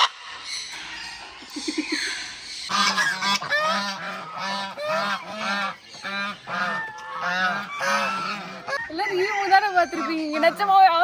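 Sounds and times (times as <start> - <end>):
bird honking: 2.0 - 11.0.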